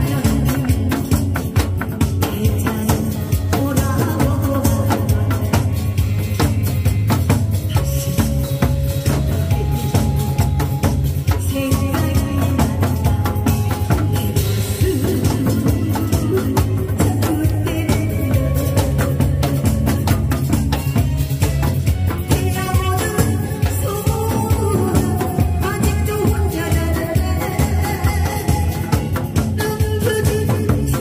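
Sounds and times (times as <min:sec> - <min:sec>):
loud music with busy drums: 0:00.0 - 0:31.0.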